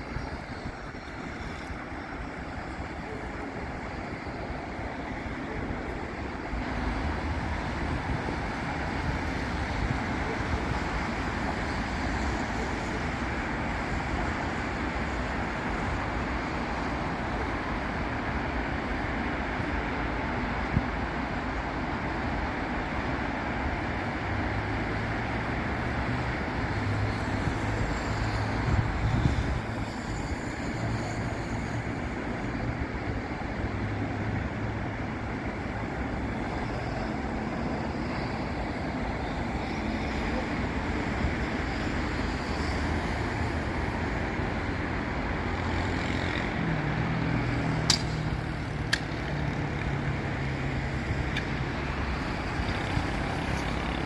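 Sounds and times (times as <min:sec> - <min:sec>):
cars and buses passing: 0:00.0 - 0:54.0.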